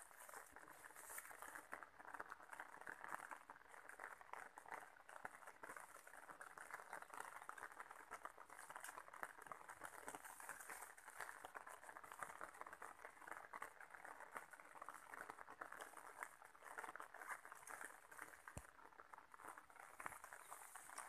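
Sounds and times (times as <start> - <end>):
light rain on leaves: 0.0 - 21.0.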